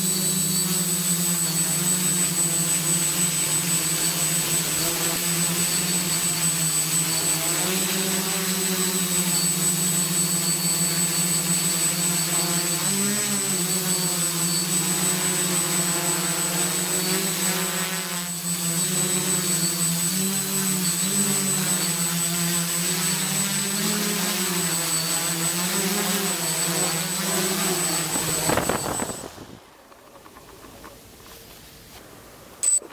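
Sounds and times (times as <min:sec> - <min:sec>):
quadcopter motors humming: 0:00.0 - 0:31.0, 0:32.5 - 0:32.9.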